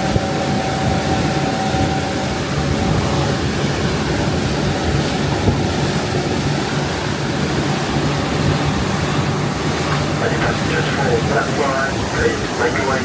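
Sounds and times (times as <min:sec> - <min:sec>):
boat engine drone: 0:00.0 - 0:13.0
rushing water: 0:00.0 - 0:13.0
wind noise on microphone: 0:00.0 - 0:13.0.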